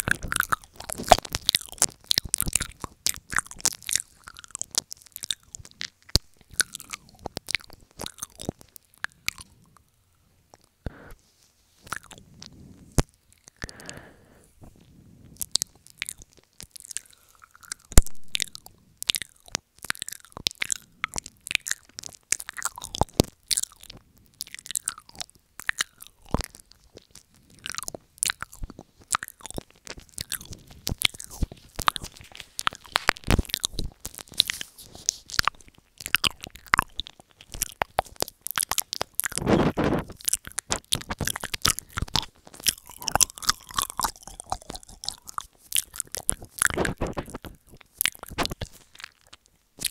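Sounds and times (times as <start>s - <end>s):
wet mouth clicks and smacks: 0.0s - 9.9s, 11.8s - 14.1s, 15.4s - 49.9s.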